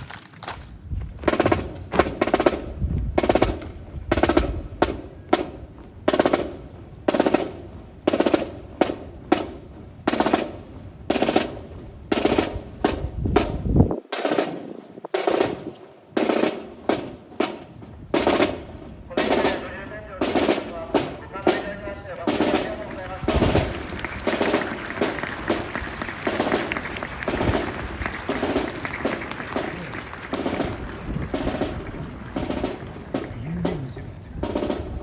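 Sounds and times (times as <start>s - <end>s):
snare drum marching cadence: 1.2s - 35.0s.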